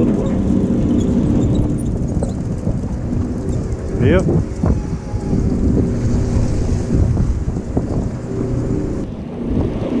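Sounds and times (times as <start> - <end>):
boat engine running: 0.0 - 10.0
wind buffeting microphone: 0.0 - 10.0.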